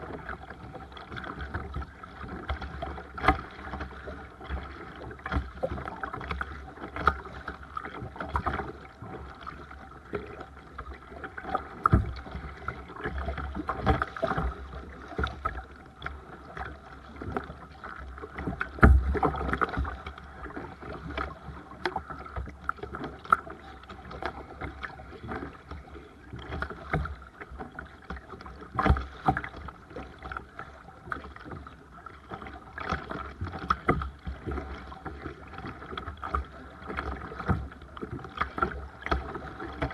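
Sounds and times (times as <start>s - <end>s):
paddle strokes splashing: 0.0s - 39.9s
water sloshing against hull: 0.0s - 39.9s.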